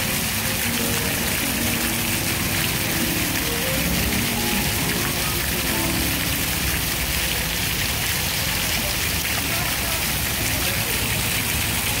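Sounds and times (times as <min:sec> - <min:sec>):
fountain spattering on wet paving: 0:00.0 - 0:12.0.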